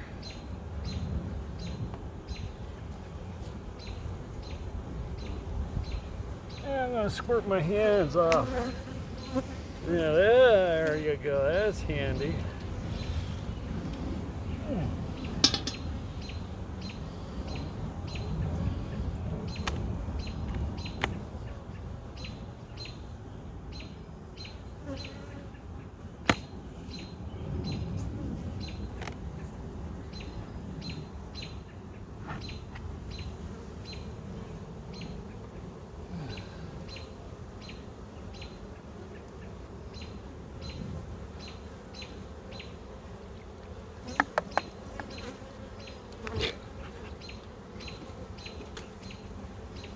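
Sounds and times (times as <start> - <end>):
bees buzzing: 2.0 - 27.8, 28.5 - 49.9.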